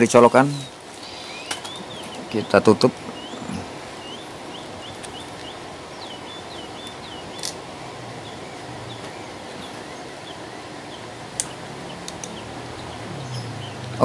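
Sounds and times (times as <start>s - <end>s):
small birds chirping: 0.0s - 14.0s
steady hiss: 0.0s - 14.0s.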